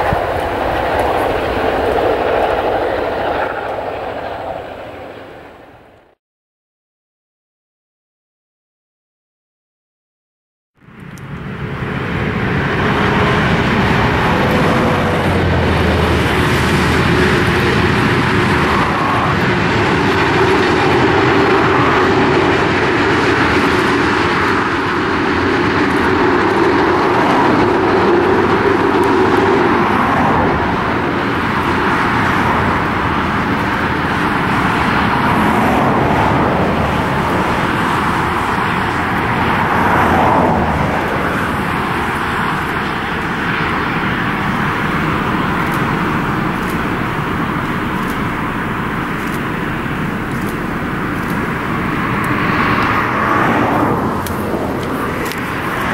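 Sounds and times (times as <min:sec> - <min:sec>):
train wheels on rail: 0:00.0 - 0:06.0, 0:11.0 - 0:55.9
diesel locomotive engines droning: 0:00.0 - 0:06.2, 0:10.8 - 0:55.9.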